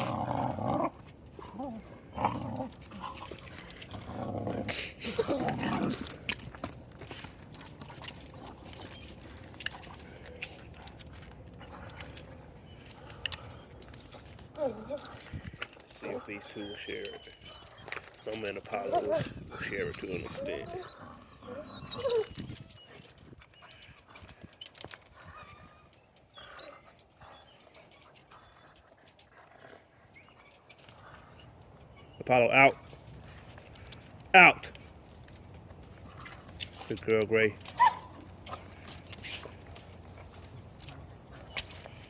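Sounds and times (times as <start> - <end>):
dogs moving about: 0.0 - 32.2, 32.8 - 42.0.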